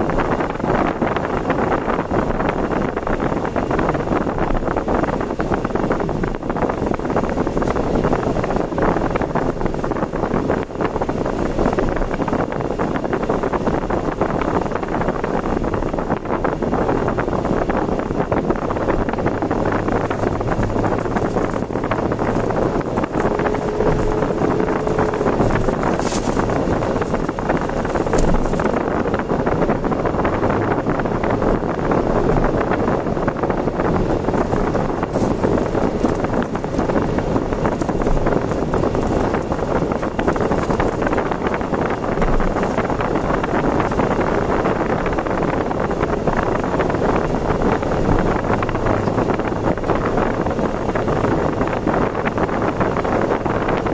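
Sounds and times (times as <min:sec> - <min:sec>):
car road and wind noise: 0:00.0 - 0:53.9.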